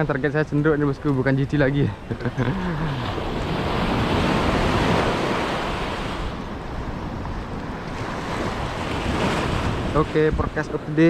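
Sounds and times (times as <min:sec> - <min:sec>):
surf washing over reef: 0:00.0 - 0:11.0
wind rumble on microphone: 0:00.0 - 0:11.0.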